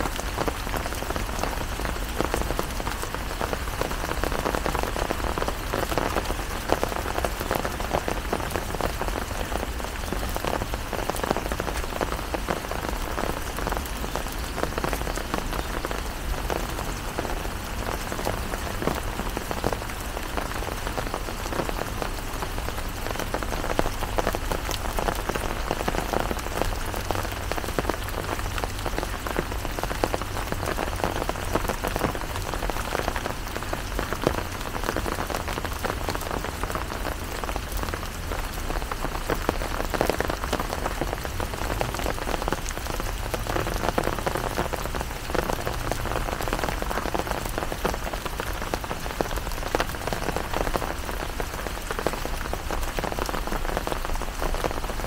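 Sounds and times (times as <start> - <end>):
raindrops ticking: 0.0 - 55.0
steady rain hiss: 0.0 - 55.0.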